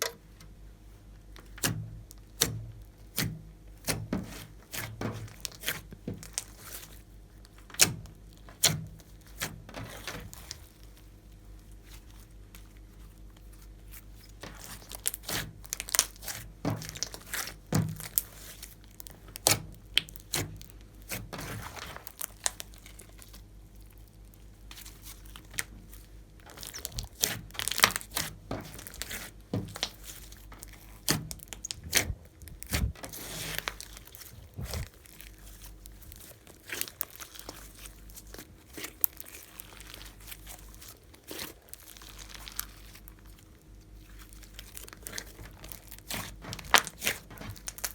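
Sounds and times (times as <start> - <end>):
slime crackling and popping: 1.4 - 47.9.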